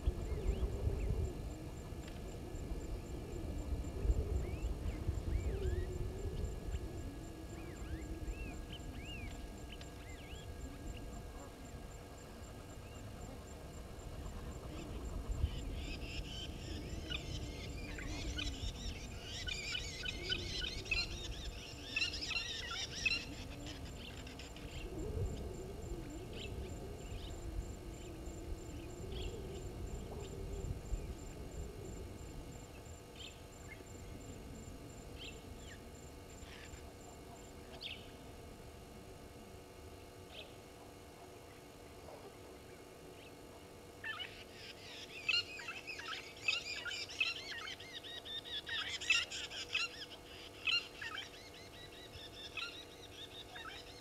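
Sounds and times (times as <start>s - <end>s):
birds chittering and chirping: 0.0s - 35.8s, 42.6s - 54.0s.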